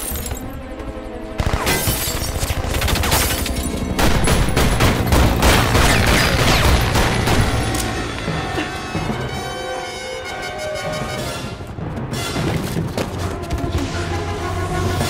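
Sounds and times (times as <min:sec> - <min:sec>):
film music score: 0:00.0 - 0:15.0.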